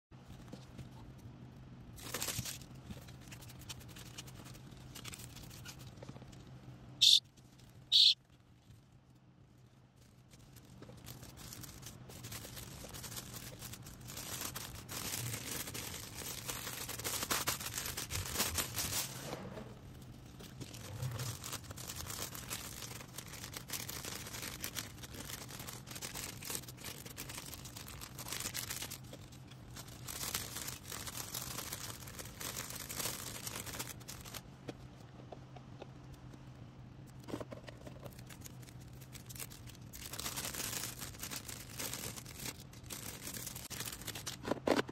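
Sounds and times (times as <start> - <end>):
plastic packaging crinkling: 1.8 - 34.5, 37.1 - 44.9.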